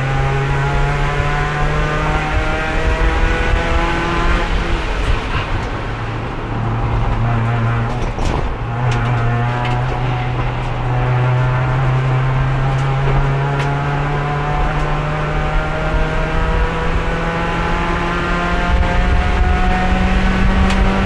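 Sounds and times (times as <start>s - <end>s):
race car engine: 0.0s - 21.0s.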